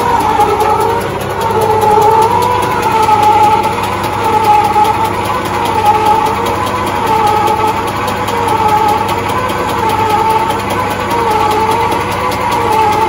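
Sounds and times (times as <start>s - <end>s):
metal lathe gear whine: 0.0s - 13.0s.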